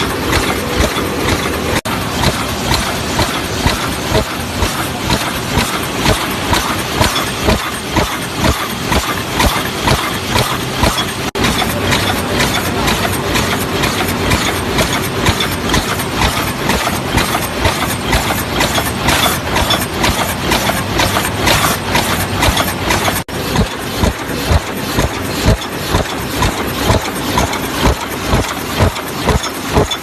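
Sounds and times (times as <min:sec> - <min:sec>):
machine clattering: 0:00.0 - 0:30.0.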